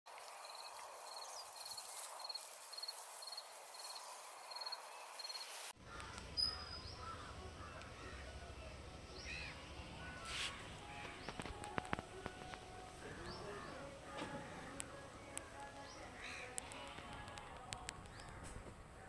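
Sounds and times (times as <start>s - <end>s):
bird calls: 0.4s - 8.4s, 9.1s - 14.8s, 15.6s - 16.8s, 17.8s - 18.6s.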